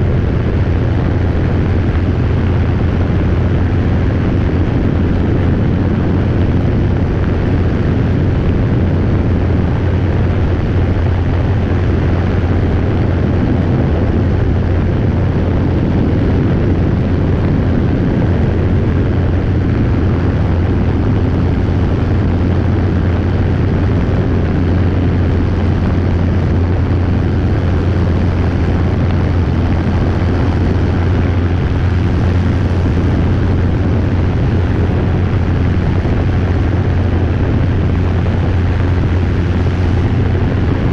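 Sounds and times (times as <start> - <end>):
helicopter engine and rotor noise: 0.0 - 40.9.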